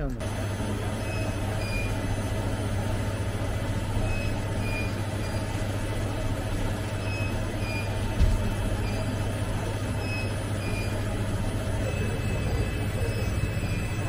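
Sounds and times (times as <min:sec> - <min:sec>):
equipment room hum: 0:00.0 - 0:14.0.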